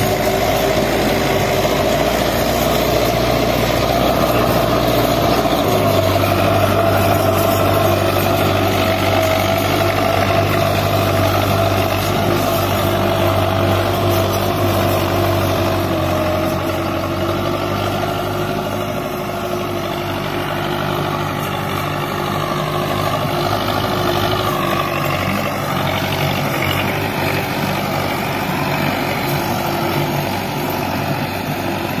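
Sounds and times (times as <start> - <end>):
tractor diesel engine: 0.0 - 32.0.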